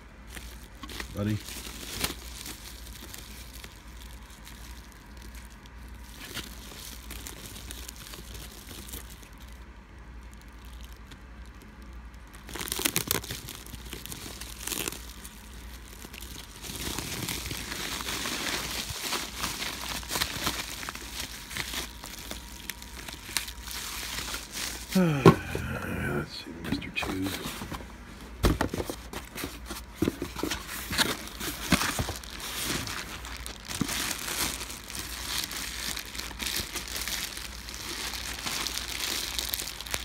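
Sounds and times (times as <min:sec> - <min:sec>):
bubble wrap crinkling and crackling: 0:00.0 - 0:40.0.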